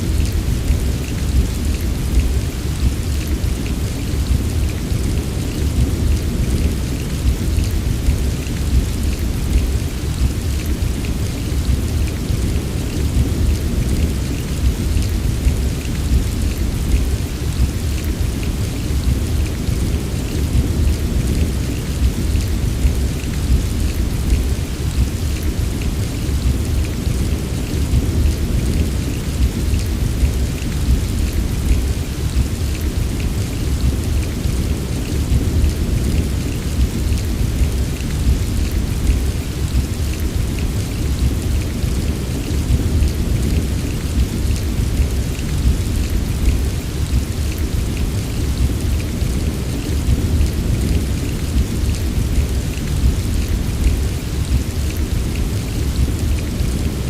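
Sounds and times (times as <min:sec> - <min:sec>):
heavy rain: 0:00.0 - 0:57.0
raindrops ticking: 0:00.1 - 0:57.0.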